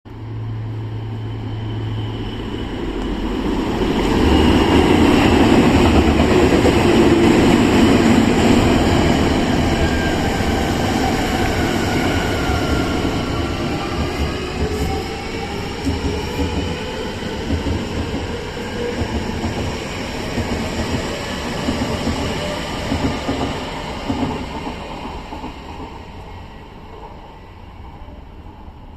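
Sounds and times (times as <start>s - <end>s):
train wheels rumbling on rails: 0.2s - 28.9s.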